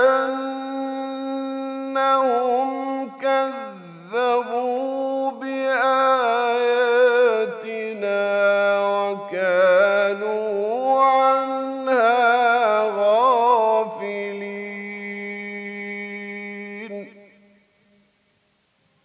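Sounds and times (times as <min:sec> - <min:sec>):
man chanting melodically: 0:00.0 - 0:17.2.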